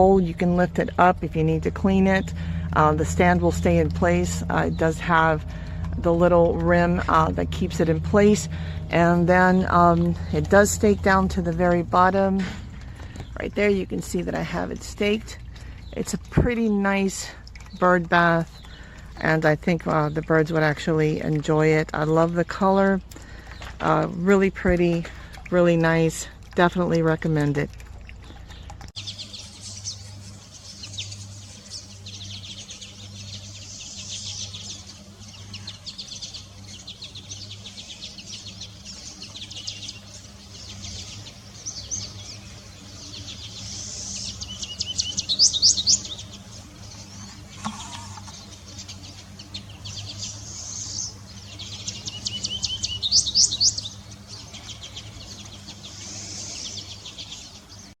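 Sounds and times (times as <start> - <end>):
birds singing and chirping: 0.0 - 58.0
faint low hum: 0.0 - 58.0.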